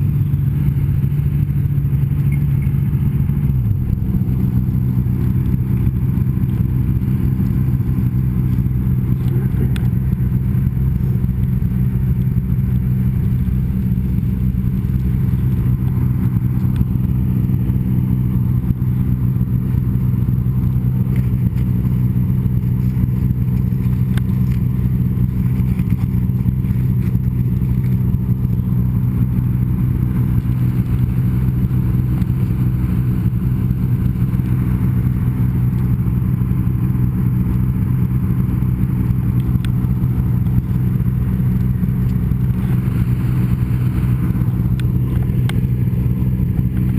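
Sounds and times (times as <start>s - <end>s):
snowmobile engine droning: 0.0s - 46.9s.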